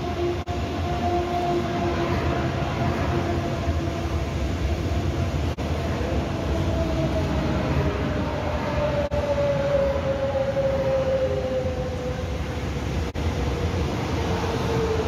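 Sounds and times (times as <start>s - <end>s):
train inverter whine: 0.0s - 15.0s
train wheels rumbling on track: 0.0s - 15.0s.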